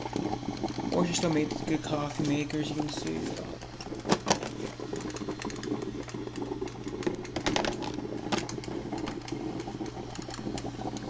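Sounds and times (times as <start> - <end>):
coffee maker sputtering and popping: 0.0 - 11.0
steady low hum: 0.0 - 11.0.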